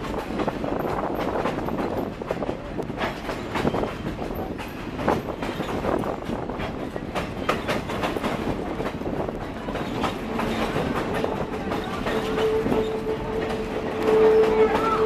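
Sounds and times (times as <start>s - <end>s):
train rumble and rattle: 0.0s - 15.0s
wheels clacking on rails: 0.0s - 15.0s.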